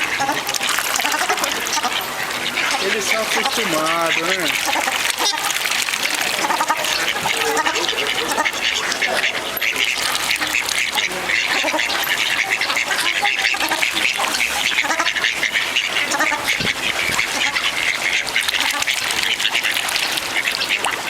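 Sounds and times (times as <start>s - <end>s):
many birds squawking: 0.0s - 21.0s.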